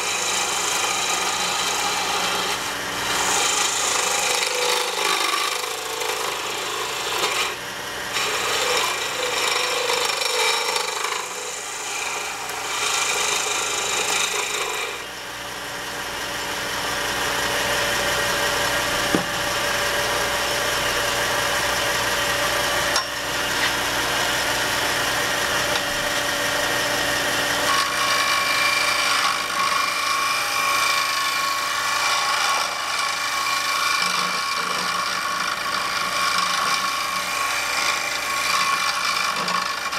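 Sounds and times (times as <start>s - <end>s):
chisel shaving wood: 0.0s - 39.9s
wood lathe humming: 0.0s - 39.9s.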